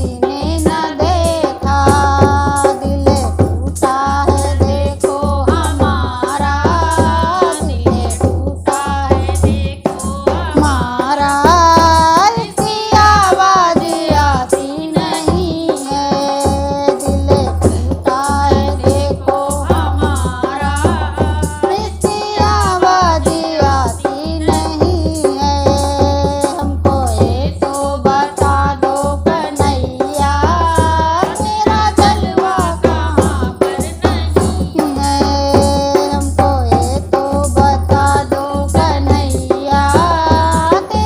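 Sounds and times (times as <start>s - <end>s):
drum accompaniment: 0.0s - 41.0s
person singing devotional song: 0.0s - 41.0s.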